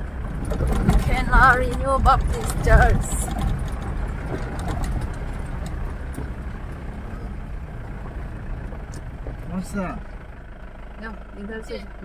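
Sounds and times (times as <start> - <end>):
engine and road noise: 0.0 - 12.0.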